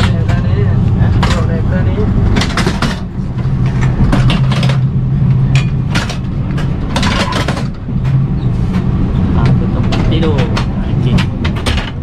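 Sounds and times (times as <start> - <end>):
knocks and rattles: 0.0 - 12.0
train carriage low drone: 0.0 - 12.0.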